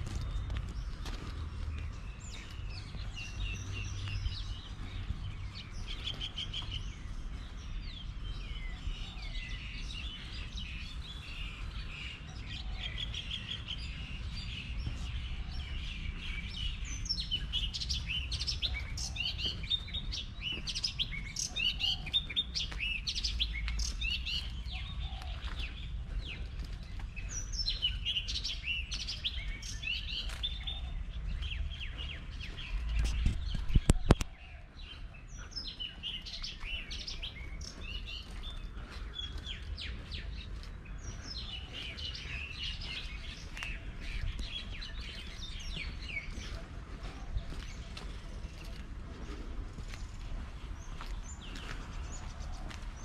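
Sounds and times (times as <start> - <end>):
small birds chirping: 0.0 - 53.0
steady low rumble: 0.0 - 53.0.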